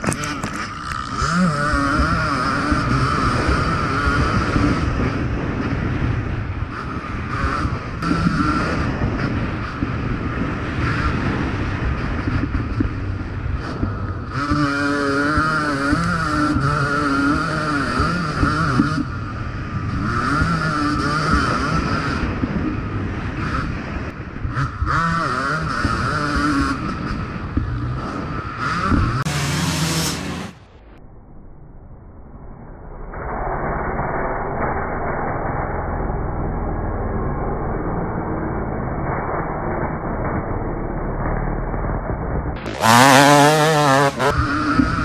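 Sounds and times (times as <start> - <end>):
two-stroke motorbike revving: 0.0 - 30.7, 35.9 - 45.0.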